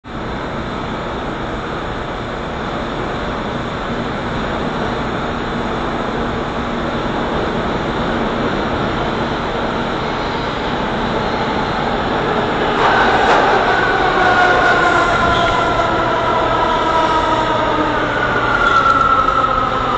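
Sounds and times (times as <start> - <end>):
subway train rumbling: 0.0 - 19.9.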